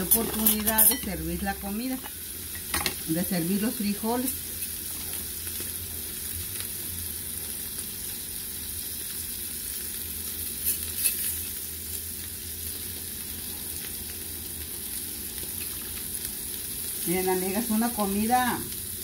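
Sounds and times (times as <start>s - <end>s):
cheese sizzling in a pan: 0.0s - 19.0s.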